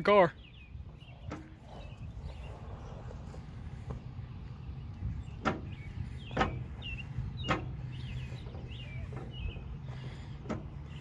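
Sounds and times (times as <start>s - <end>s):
birds chirping: 0.0s - 11.0s
low rumble: 0.6s - 11.0s.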